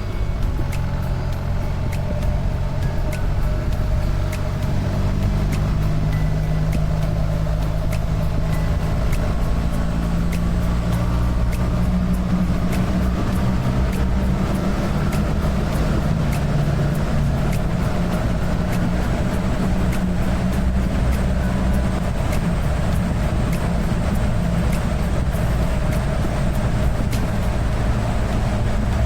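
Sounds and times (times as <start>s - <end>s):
faint regular ticking: 0.0s - 29.0s
motorcycle engine running: 0.0s - 29.0s
road and wind noise: 0.0s - 29.0s.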